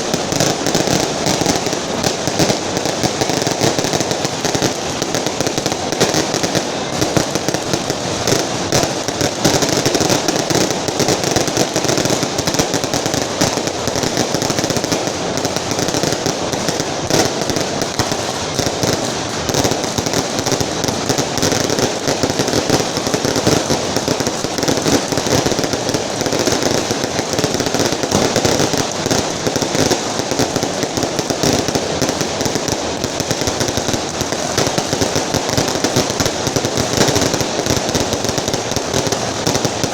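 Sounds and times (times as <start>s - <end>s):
string of firecrackers exploding: 0.0s - 39.9s.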